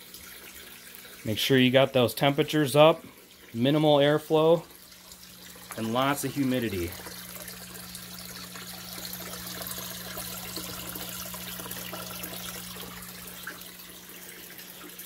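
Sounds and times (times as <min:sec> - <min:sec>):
hose water pouring into tub: 0:00.0 - 0:15.0.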